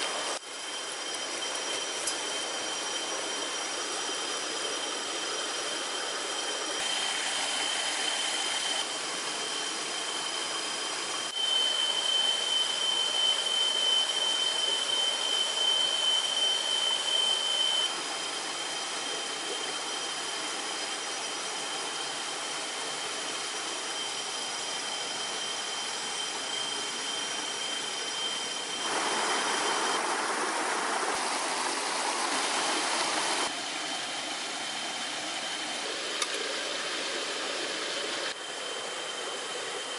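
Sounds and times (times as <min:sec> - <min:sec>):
insects droning high-pitched: 0:00.0 - 0:35.8.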